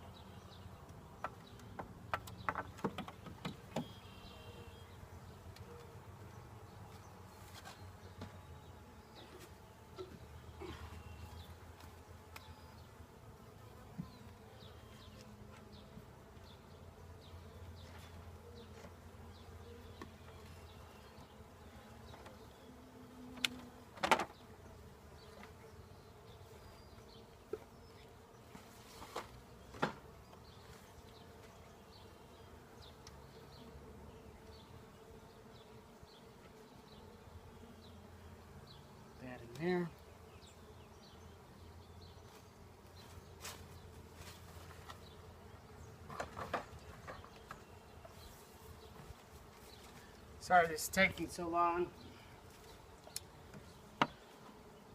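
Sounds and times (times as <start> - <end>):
honeybees buzzing: 0.0 - 54.9.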